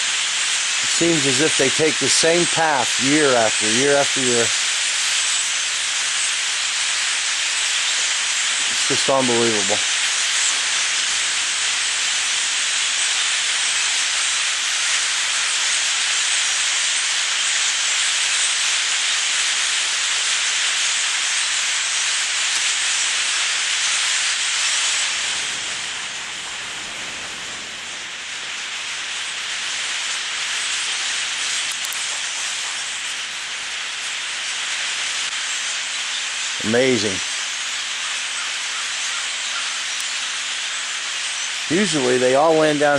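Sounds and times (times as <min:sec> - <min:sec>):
flock of blackbirds calling: 0:00.0 - 0:42.9.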